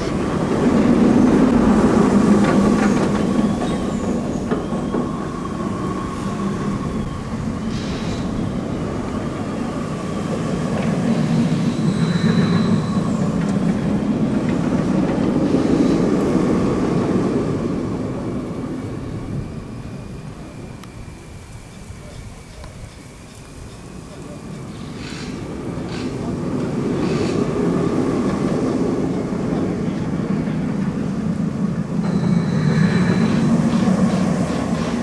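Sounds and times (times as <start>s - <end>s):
roller coaster rumbling on track: 0.0s - 35.0s
steady whine: 0.0s - 35.0s.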